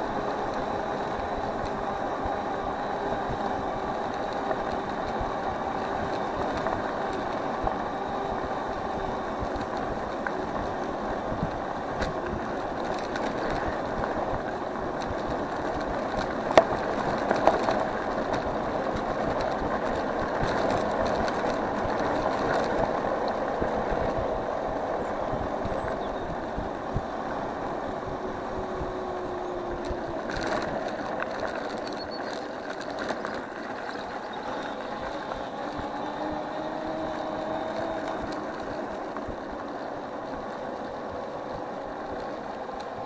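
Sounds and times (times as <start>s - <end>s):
faint motor whine: 0.0s - 43.0s
scooter rattles: 0.0s - 43.0s
scooter tyres rumbling on path: 0.0s - 43.0s.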